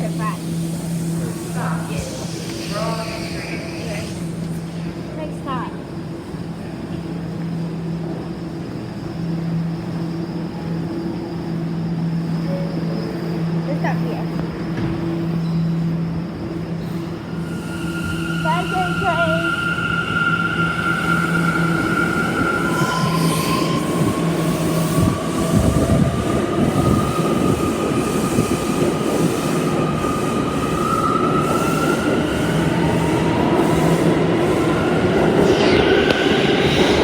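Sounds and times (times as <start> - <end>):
subway wheels rumbling on rails: 0.0 - 37.0.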